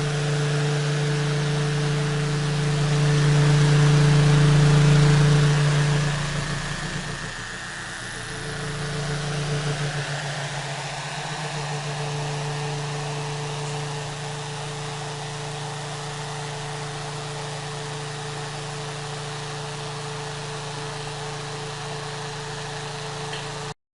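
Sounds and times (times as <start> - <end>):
small motor humming: 0.0 - 23.8.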